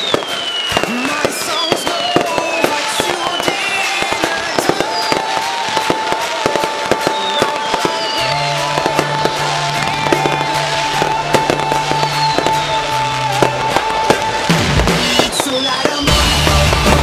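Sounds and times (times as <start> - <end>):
fireworks crackling and popping: 0.0 - 17.0
fireworks whistles: 0.0 - 17.0.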